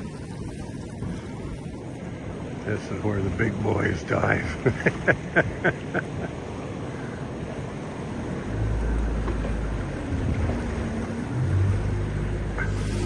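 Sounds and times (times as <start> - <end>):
boat engine droning: 0.0 - 13.0
sea noise: 0.0 - 13.0
wind: 0.0 - 13.0.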